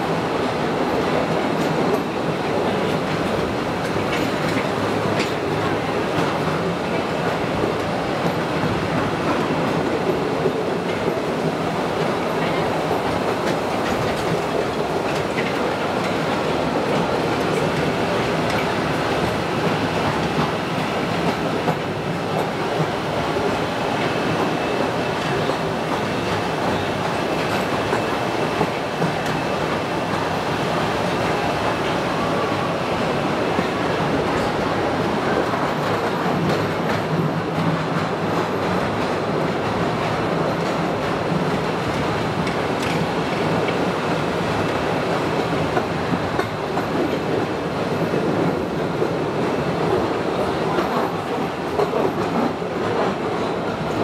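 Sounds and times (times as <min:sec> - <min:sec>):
wheels rattling on rails: 0:00.0 - 0:54.0.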